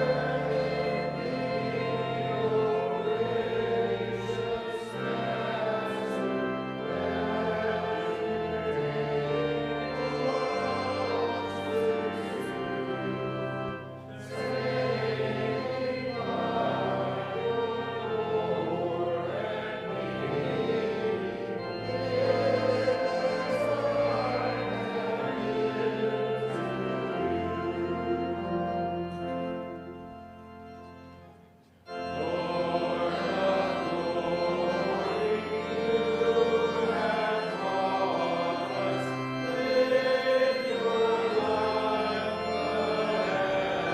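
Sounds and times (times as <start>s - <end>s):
organ chords: 0.0s - 43.9s
voices singing a hymn: 0.0s - 43.9s.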